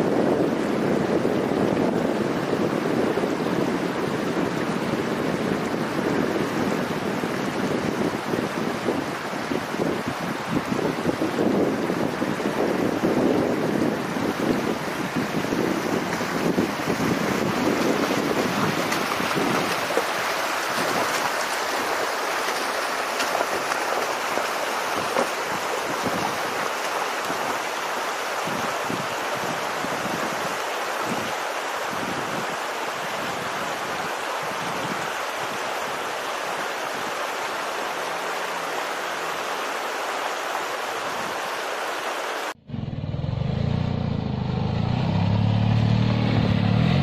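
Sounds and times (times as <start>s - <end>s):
car wheels churning through stream: 0.0s - 47.0s.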